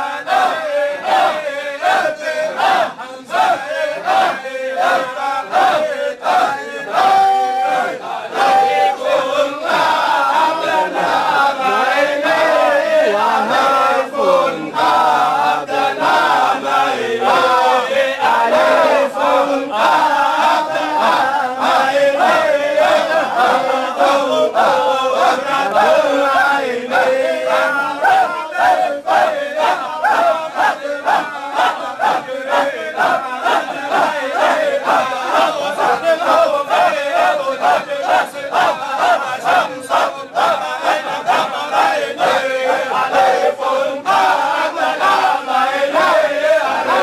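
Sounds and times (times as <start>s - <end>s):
men chanting together: 0.0s - 47.0s.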